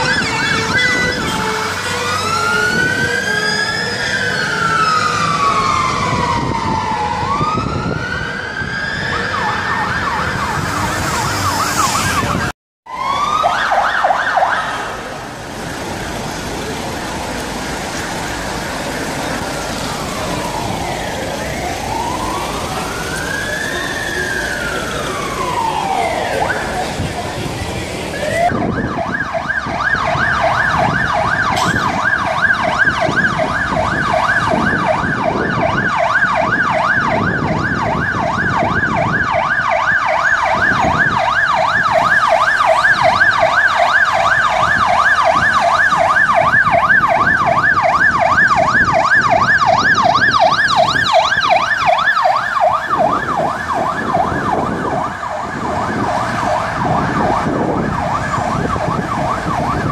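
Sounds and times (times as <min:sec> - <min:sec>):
siren yelping: 0:00.0 - 0:15.1, 0:19.1 - 0:27.3, 0:28.1 - 0:59.9
city traffic noise: 0:00.0 - 0:59.9.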